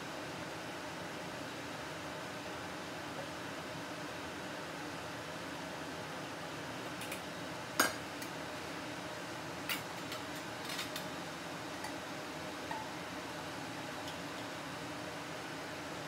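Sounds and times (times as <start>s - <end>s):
steady sizzling hiss: 0.0s - 16.0s.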